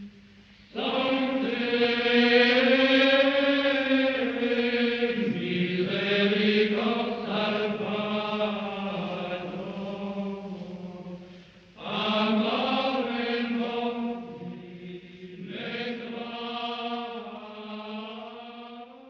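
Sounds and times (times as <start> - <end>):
person chanting: 0.8 - 19.0.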